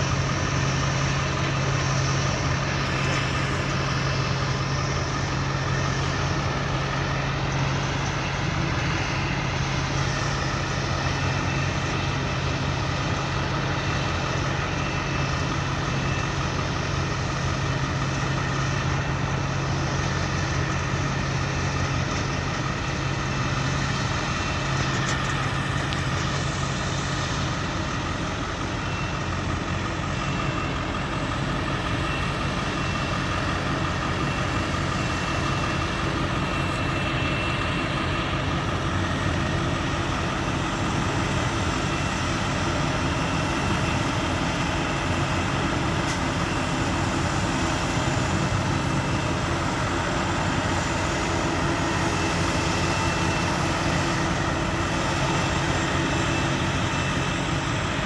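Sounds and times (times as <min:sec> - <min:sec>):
heavy farm machinery engine humming: 0:00.0 - 0:58.0.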